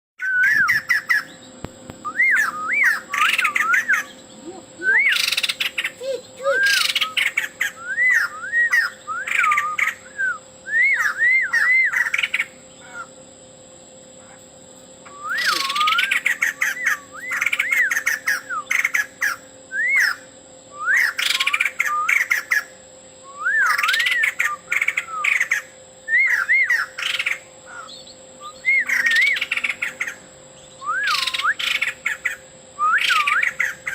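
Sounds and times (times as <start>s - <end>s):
bird whistled song: 0.2s - 13.1s, 15.0s - 33.9s
harsh raspy bird calls: 0.2s - 13.3s, 14.1s - 22.9s, 23.6s - 33.9s.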